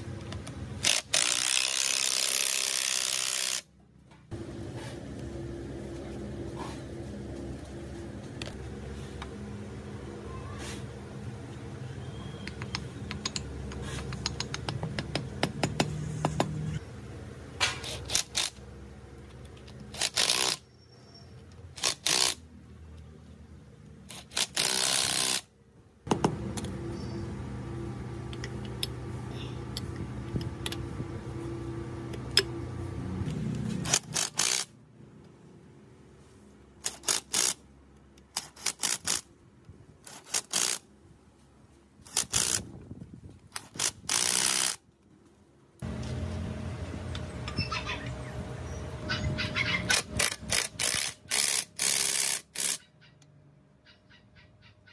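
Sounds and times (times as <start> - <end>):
steady low hum: 0.0 - 36.9, 40.8 - 52.6.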